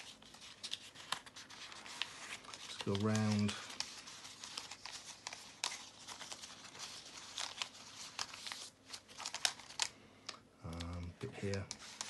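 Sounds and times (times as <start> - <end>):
paper crinkling and crackling: 0.0 - 12.0.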